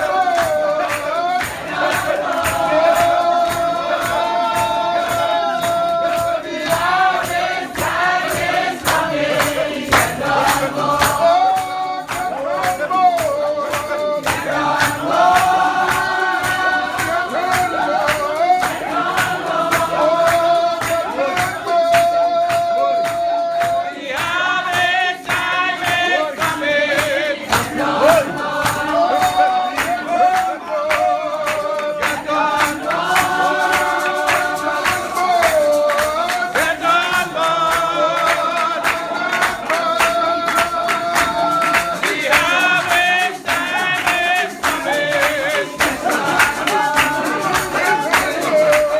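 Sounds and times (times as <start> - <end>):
congregation singing a hymn: 0.0 - 48.9
fast percussive beat: 0.0 - 48.9.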